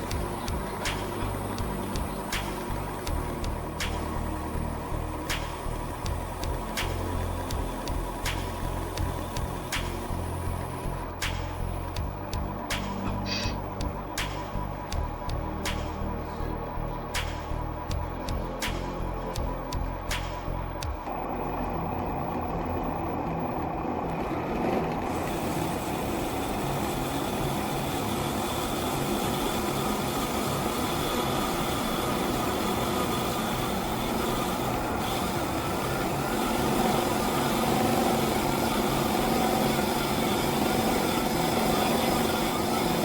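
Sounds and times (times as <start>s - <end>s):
music: 0.0s - 43.0s
remote-control truck droning: 0.0s - 43.0s.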